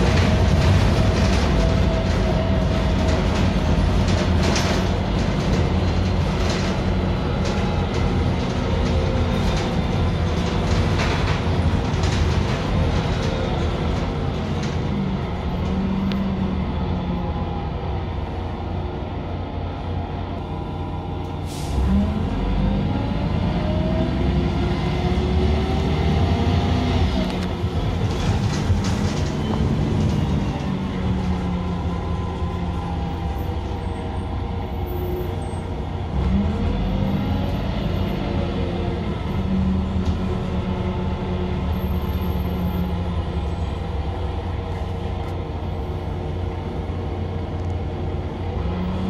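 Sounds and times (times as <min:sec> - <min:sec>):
bus engine accelerating: 0:00.0 - 0:49.0.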